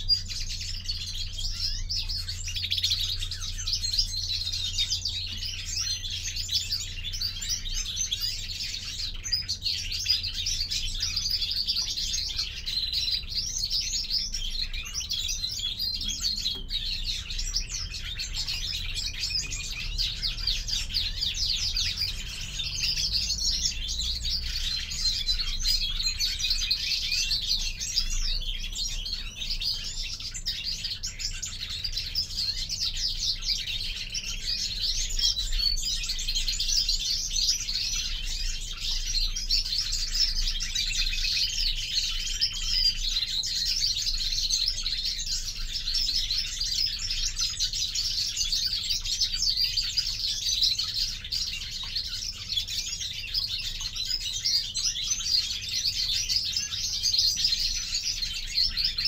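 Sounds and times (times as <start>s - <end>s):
finches chirping and twittering: 0.0s - 59.0s.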